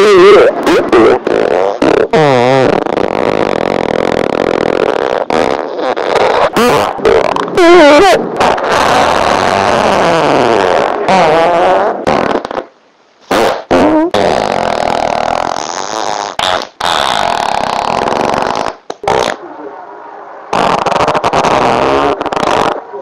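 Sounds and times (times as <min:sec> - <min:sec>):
loud farts: 0:00.0 - 0:19.4, 0:20.5 - 0:22.8.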